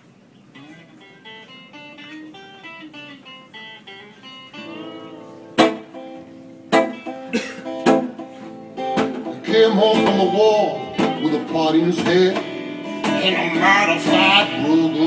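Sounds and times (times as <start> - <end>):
picked guitar notes: 0.0 - 15.0
band accented chords: 0.4 - 15.0.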